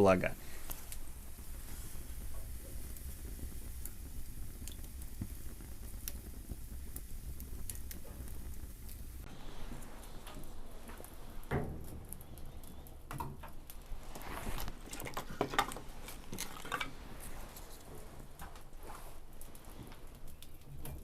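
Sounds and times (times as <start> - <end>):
logs hissing: 0.0 - 21.0
wood fire crackling: 0.0 - 21.0.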